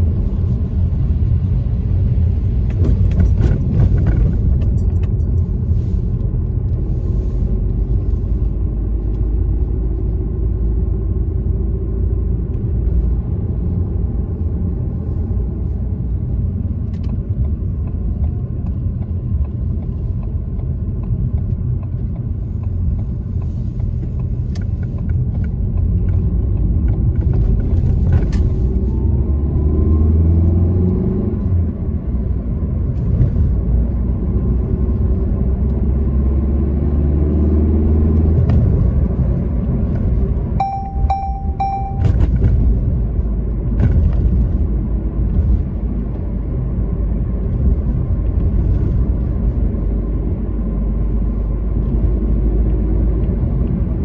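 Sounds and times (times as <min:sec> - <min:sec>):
car engine and tyres on wet road: 0:00.0 - 0:54.0.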